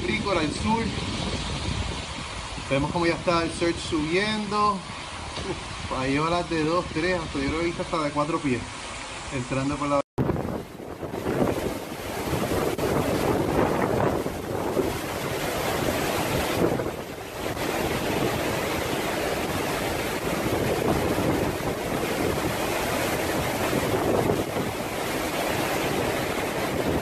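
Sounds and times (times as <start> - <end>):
heavy rain: 0.0 - 27.0
waves breaking: 0.0 - 27.0
wind gusting across microphone: 0.0 - 27.0.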